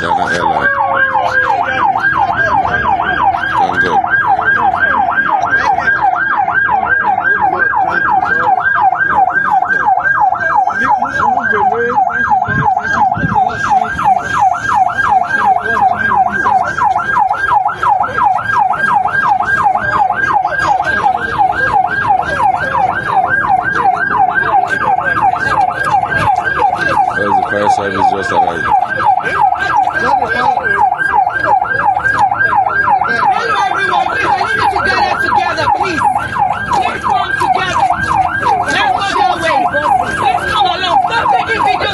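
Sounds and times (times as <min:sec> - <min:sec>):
fire engine siren yelping: 0:00.0 - 0:41.9.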